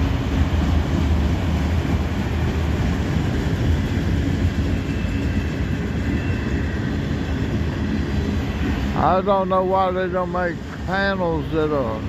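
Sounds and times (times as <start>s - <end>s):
freight train rumbling past: 0.0s - 12.0s
train wheels squealing: 0.0s - 12.0s.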